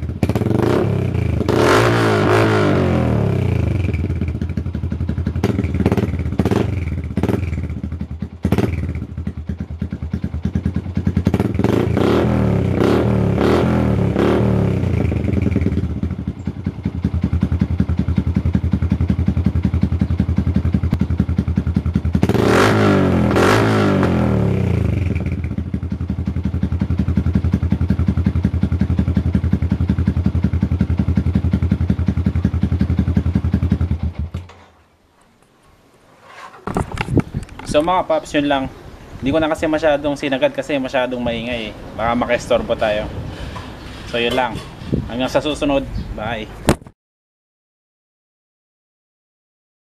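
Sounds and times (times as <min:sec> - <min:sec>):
motorcycle engine idling and revving: 0:00.0 - 0:34.7, 0:39.2 - 0:46.2.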